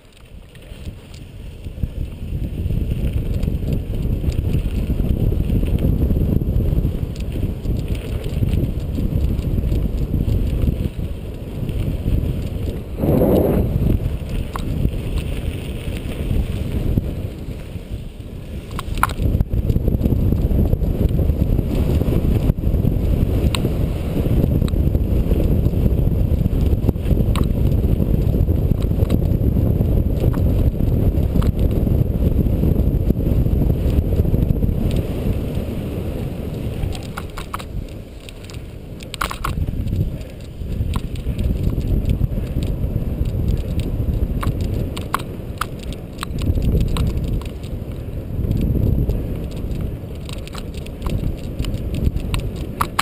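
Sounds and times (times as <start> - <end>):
bike clicks and rattles: 0.0 - 13.0, 13.8 - 35.6, 36.5 - 53.0
bike tyre noise on gravel: 0.0 - 53.0
wind buffeting microphone: 0.0 - 53.0.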